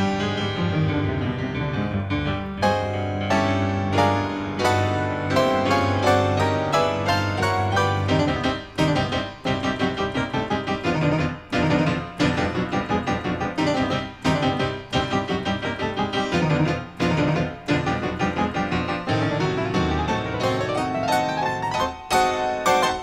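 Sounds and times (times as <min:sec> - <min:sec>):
lively piano music: 0:00.0 - 0:23.0.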